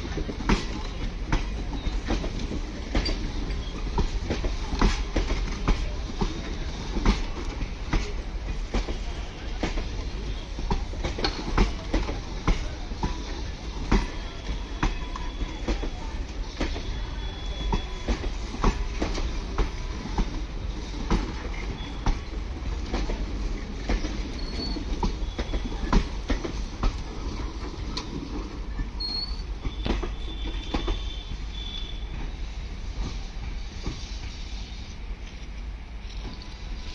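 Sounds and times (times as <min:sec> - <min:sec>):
wheels clacking over rail joints: 0:00.0 - 0:31.7
train rumble: 0:00.0 - 0:36.9.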